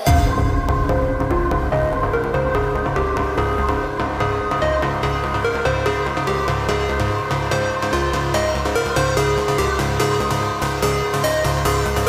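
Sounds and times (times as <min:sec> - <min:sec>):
background music with pulsing beat: 0:00.0 - 0:12.0.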